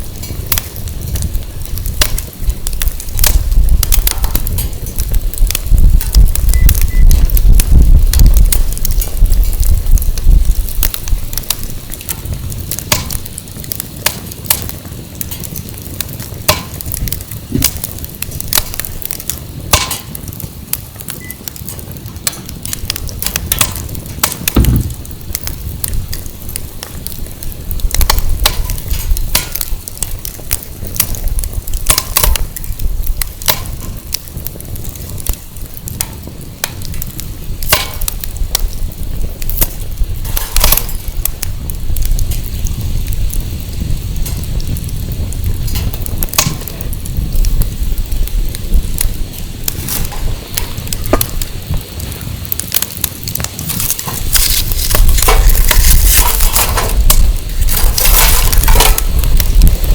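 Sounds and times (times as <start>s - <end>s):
firewood crackling and popping: 0.0s - 59.9s
wind buffeting microphone: 0.0s - 59.9s.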